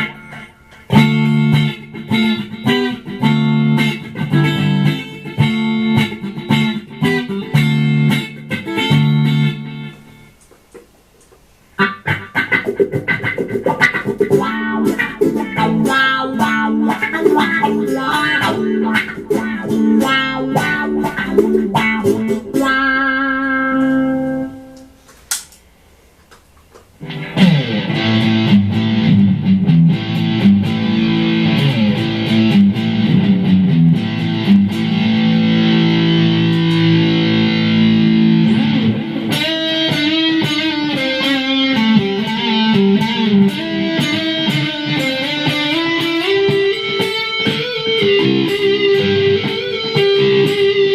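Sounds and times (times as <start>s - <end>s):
electric guitar playing: 0.0s - 10.6s, 11.8s - 25.0s, 27.0s - 50.9s.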